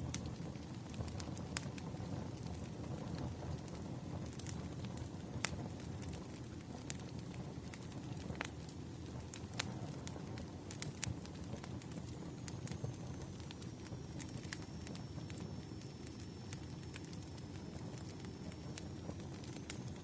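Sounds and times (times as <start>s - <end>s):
burning wood popping: 0.0s - 20.0s
low rumble of flames: 0.0s - 20.0s.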